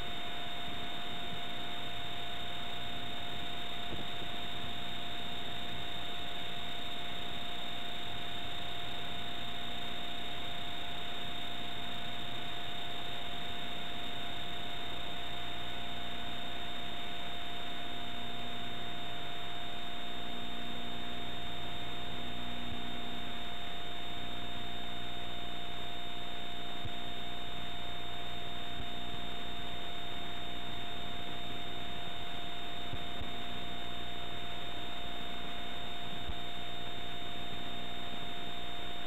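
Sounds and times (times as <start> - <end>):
electronic hiss and low hum: 0.0 - 39.0.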